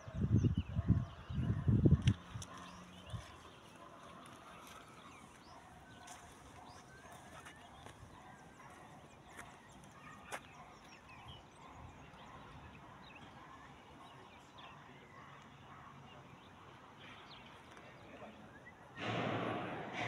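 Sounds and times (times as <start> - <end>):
distant bird calls: 0.0 - 20.0.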